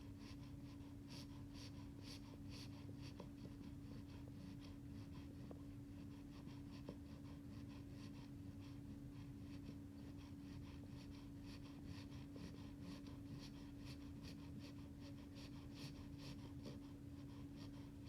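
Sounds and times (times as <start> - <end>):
puppy snoring softly: 0.0 - 18.0.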